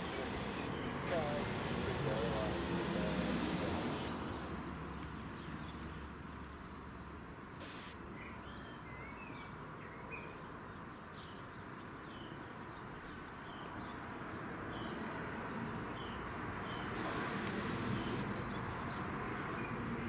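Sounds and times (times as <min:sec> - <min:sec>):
small birds chirping: 0:00.0 - 0:06.9, 0:07.6 - 0:20.0.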